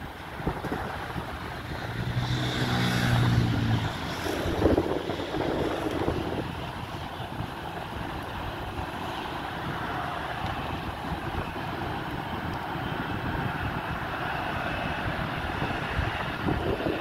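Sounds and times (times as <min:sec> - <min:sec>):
jet engine noise: 0:00.0 - 0:17.0
wind buffeting microphone: 0:00.0 - 0:17.0.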